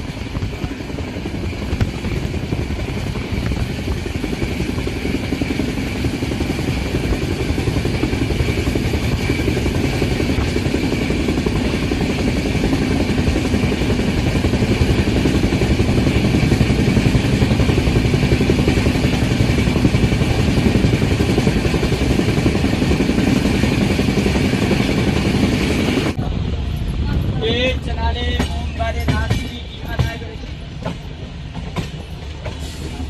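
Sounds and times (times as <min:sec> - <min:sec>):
train rumbling at high speed: 0:00.0 - 0:33.0
wheels clattering on rails: 0:00.0 - 0:33.0.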